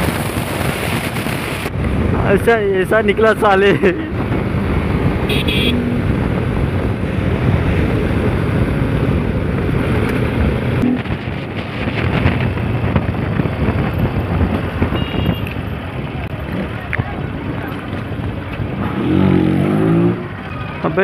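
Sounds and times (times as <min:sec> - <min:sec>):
wind buffeting the microphone: 0:00.0 - 0:19.4
motorcycle engine and exhaust: 0:03.8 - 0:21.0.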